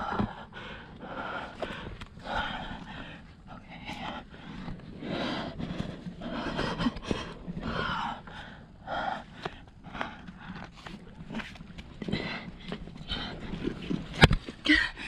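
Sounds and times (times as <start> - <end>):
person breathing hard: 0.0 - 13.7.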